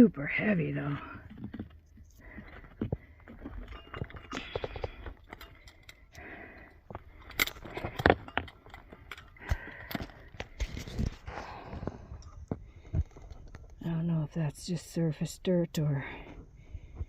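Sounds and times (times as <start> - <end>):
rocks and gear clattering: 0.0 - 15.4.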